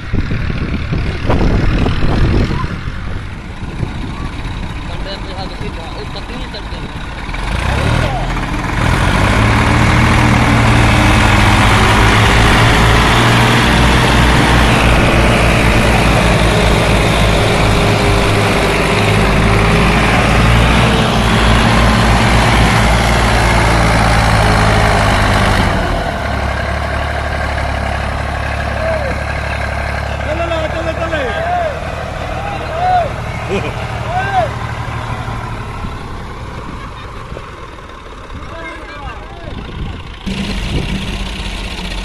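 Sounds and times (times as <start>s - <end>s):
tractor engines running hard: 0.0s - 42.0s.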